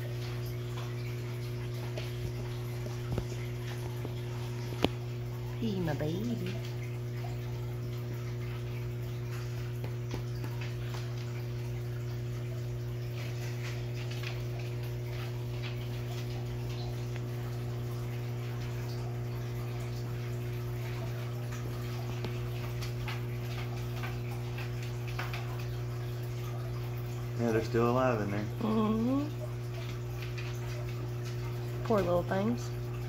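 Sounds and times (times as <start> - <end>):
air bubbles fizzing in water: 0.0 - 33.0
aquarium air pump humming: 0.0 - 33.0.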